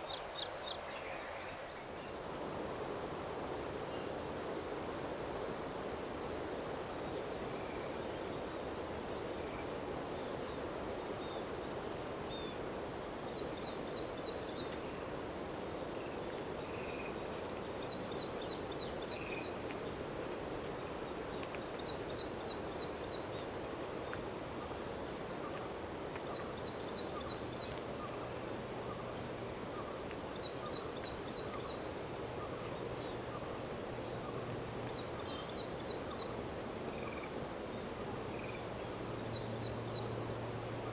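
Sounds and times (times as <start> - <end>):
crickets trilling: 0.0 - 40.9
rapid cricket chirps: 0.0 - 40.9.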